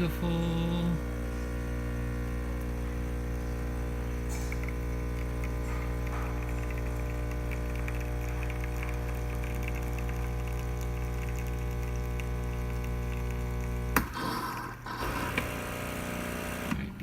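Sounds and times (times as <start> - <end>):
espresso machine pump buzzing: 0.0 - 16.9.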